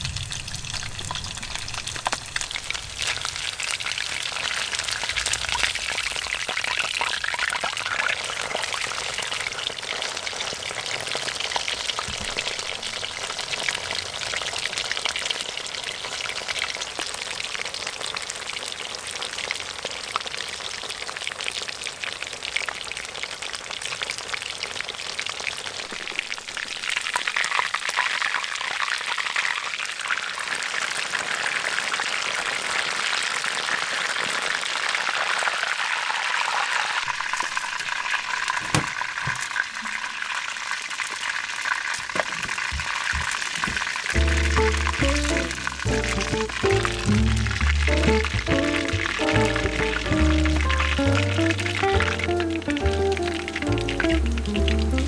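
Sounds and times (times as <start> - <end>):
chicken deep-frying in hot oil: 0.0 - 55.0.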